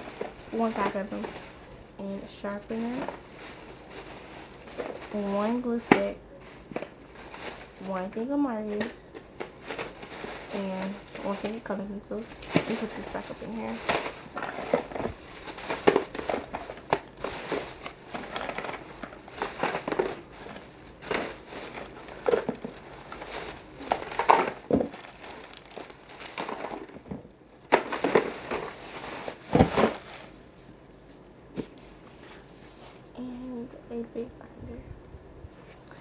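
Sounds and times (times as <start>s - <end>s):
plastic packaging rustling and crinkling: 0.0s - 33.3s.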